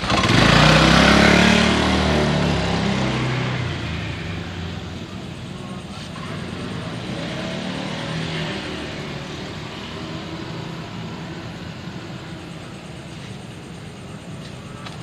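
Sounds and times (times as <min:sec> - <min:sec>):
vehicle driving past: 0:00.0 - 0:13.6.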